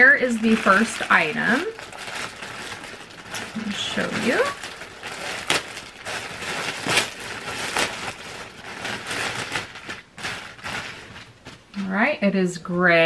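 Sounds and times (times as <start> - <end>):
packaging and fabric rustling: 0.0 - 12.1.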